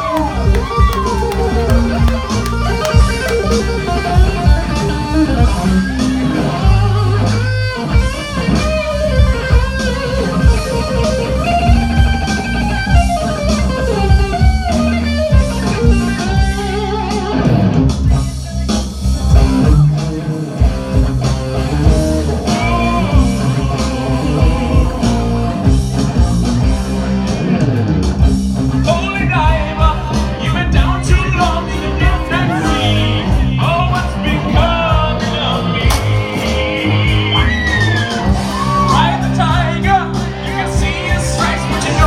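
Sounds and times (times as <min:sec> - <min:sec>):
bass guitar: 0:00.0 - 0:42.0
drums: 0:00.0 - 0:42.0
electric guitar: 0:00.0 - 0:42.0.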